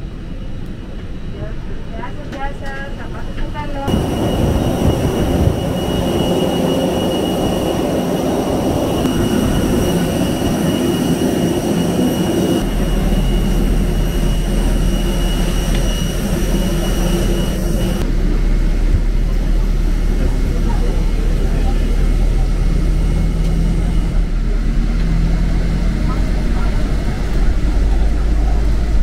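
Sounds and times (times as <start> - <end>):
jet aircraft whine: 0.0 - 29.0
deep low rumble: 3.5 - 29.0.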